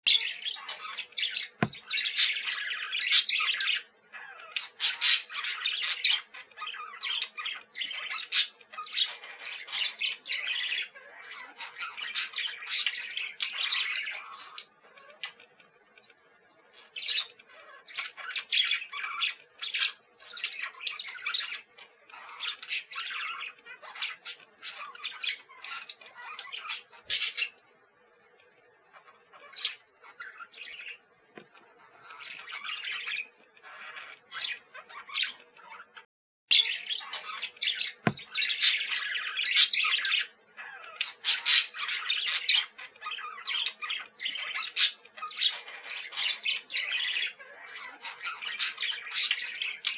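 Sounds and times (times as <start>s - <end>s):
budgerigars chirping: 0.1s - 15.4s, 16.7s - 27.6s, 31.8s - 35.9s, 36.5s - 49.9s.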